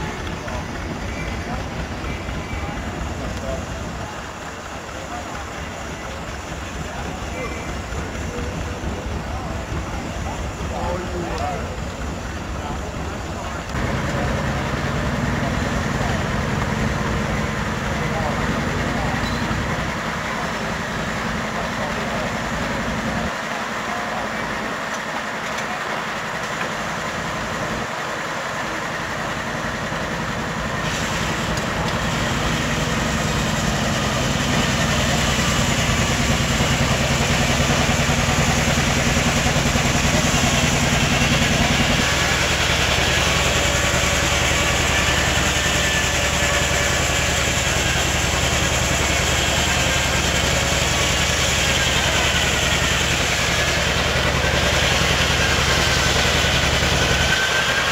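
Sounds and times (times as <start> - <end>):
machinery humming: 0.0 - 57.9.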